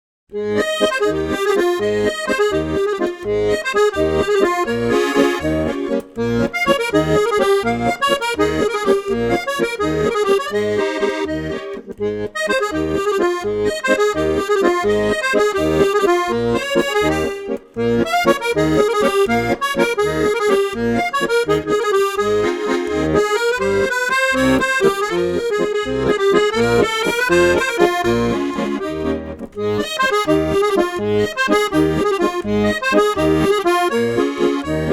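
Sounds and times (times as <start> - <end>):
accordion music: 0.3 - 34.9.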